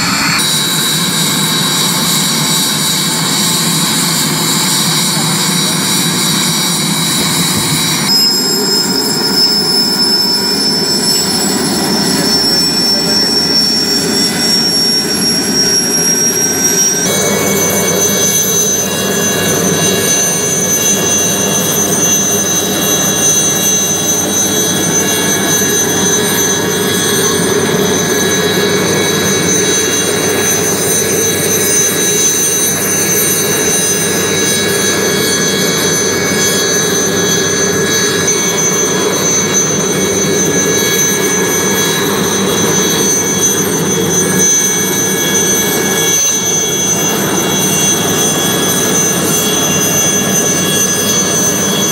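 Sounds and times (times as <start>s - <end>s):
helicopter turbine and rotor: 0.0s - 51.9s.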